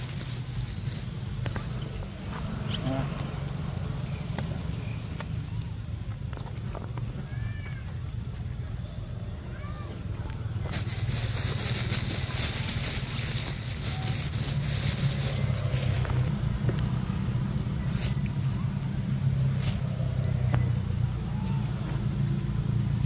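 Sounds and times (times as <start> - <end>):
rustles: 0.0 - 8.5, 10.2 - 22.5.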